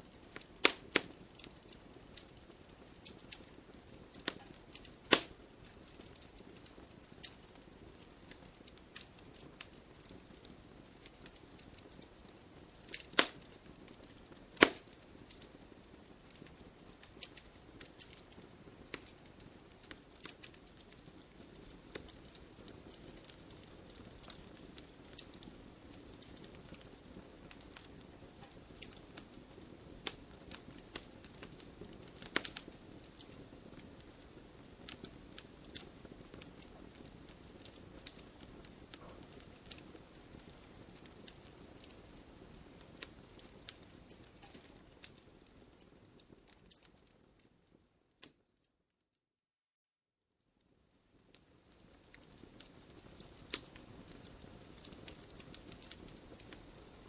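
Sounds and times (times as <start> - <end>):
campfire flames hissing: 0.0 - 47.2, 51.1 - 57.0
burning wood crackling and popping: 0.0 - 48.5, 50.9 - 57.0.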